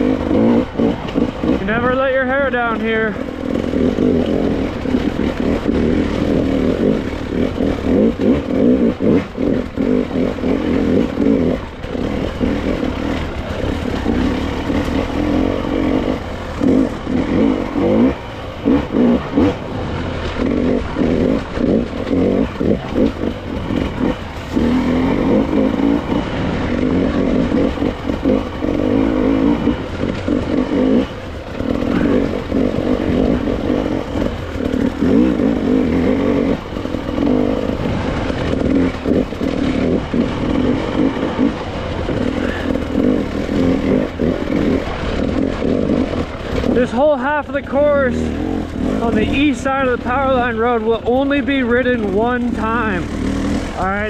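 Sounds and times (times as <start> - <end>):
clatter over rough ground: 0.0 - 54.0
dirt bike engine revving: 0.0 - 54.0.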